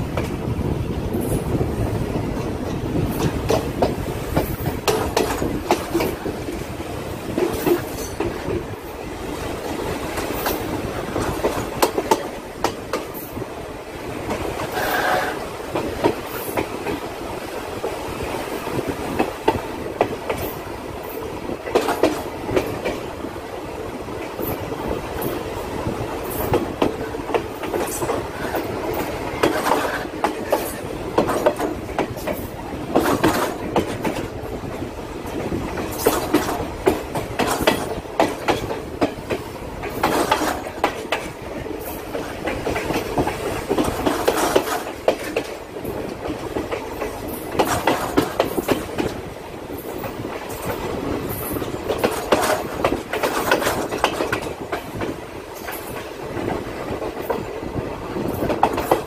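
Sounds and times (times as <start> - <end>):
wheels clacking over rail joints: 0.0 - 13.5, 14.2 - 17.2, 17.8 - 23.2, 24.2 - 59.0
train carriage rumble and rattle: 0.0 - 59.0.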